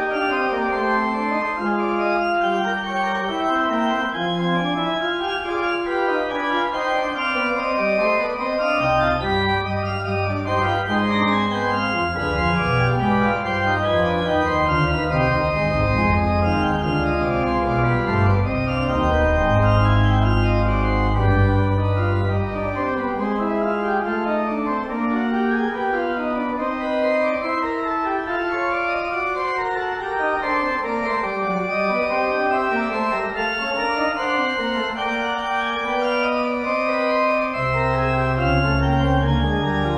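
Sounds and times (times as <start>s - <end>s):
organ music: 0.0s - 39.9s
deep organ bass notes: 0.1s - 39.9s.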